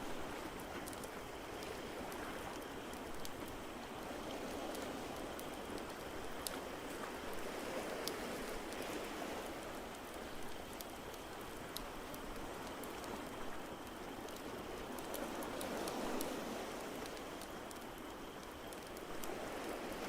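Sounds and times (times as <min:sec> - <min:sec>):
fireplace crackles: 0:00.0 - 0:20.0
rain-like hiss: 0:00.0 - 0:20.0.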